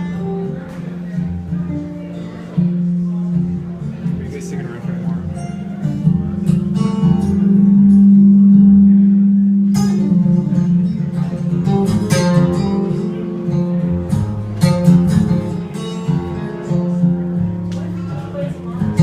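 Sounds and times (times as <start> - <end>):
acoustic guitar played hard: 0.0 - 19.0.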